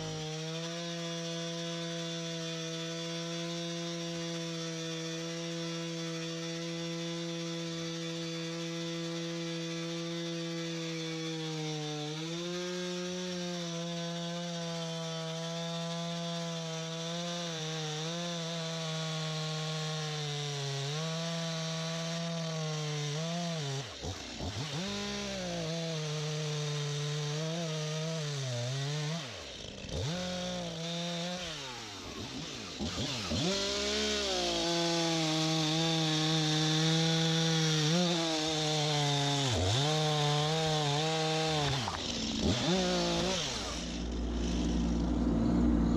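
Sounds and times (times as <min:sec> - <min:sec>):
chainsaw running: 0:00.0 - 0:45.9.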